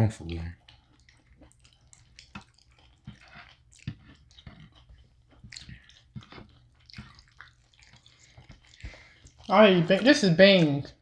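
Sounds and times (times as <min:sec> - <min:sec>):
wet chewing with crunches: 0:00.0 - 0:11.0.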